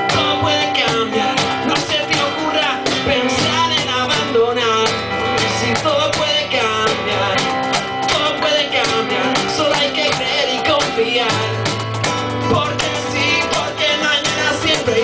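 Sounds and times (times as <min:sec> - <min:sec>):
acoustic guitar strumming: 0:00.0 - 0:15.0
cajon beat: 0:00.0 - 0:15.0
man singing: 0:00.0 - 0:15.0.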